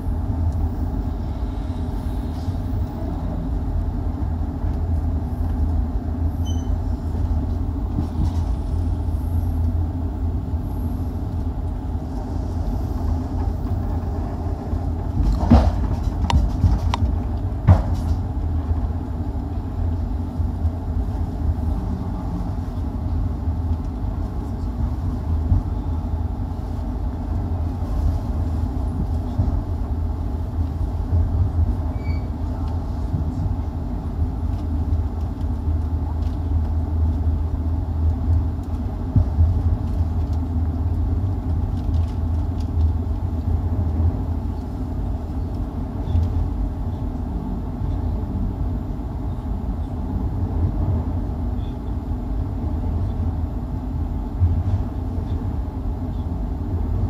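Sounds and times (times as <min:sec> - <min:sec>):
train coach rumbling on rails: 0:00.0 - 0:57.0.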